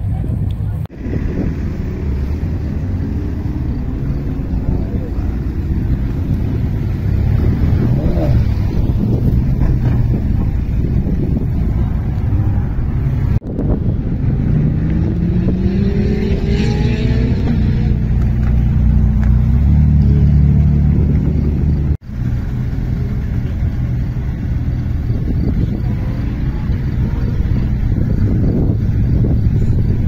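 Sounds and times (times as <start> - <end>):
sports car engines rumbling: 0.0 - 30.0
engine revving: 0.9 - 30.0.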